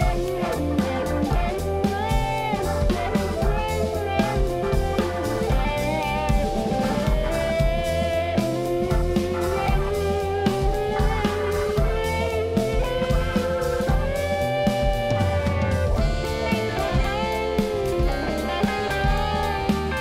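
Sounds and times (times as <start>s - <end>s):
deep pulsing bass line: 0.0s - 20.0s
drum kit: 0.0s - 20.0s
electric guitar lead: 0.0s - 20.0s.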